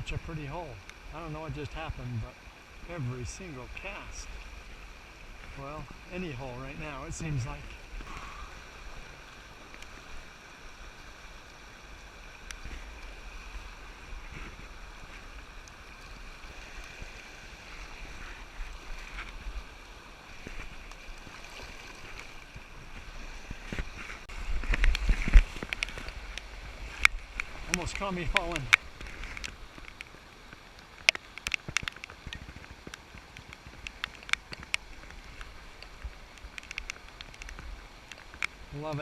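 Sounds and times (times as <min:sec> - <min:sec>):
river water running: 0:00.0 - 0:39.0.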